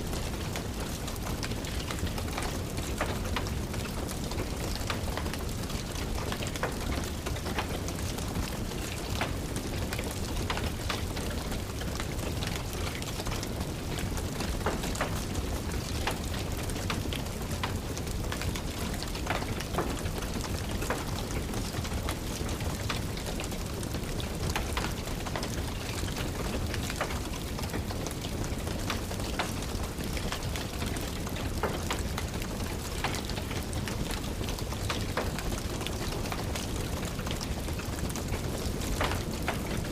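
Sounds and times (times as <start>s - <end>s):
rain falling: 0.0s - 39.9s
wood fire crackling: 0.0s - 39.9s.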